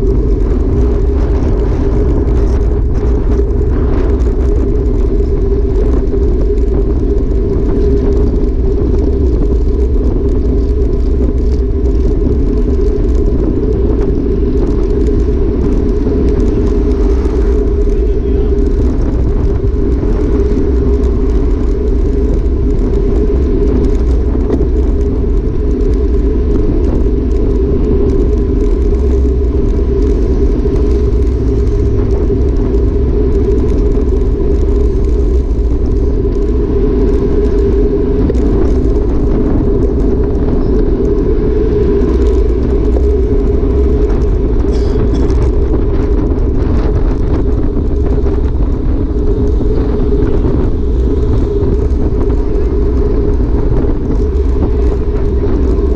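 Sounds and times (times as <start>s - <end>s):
tyres humming on asphalt: 0.0s - 55.9s
wind rushing on microphone: 0.0s - 55.9s.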